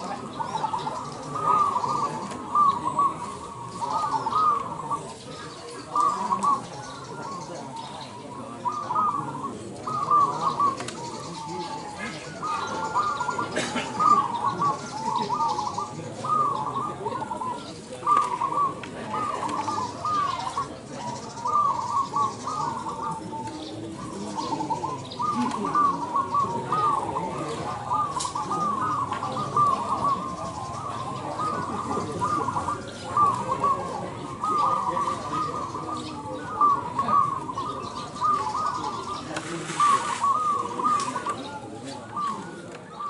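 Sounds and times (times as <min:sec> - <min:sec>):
doves cooing: 0:00.0 - 0:43.0.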